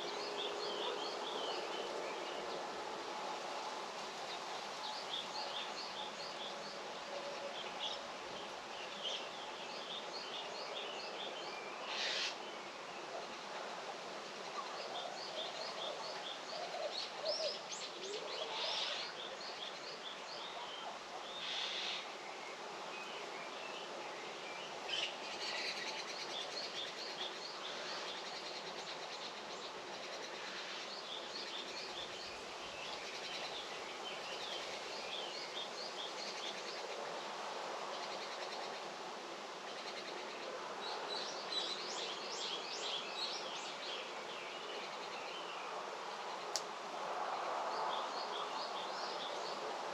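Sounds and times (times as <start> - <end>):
outdoor background hiss: 0.0 - 49.9.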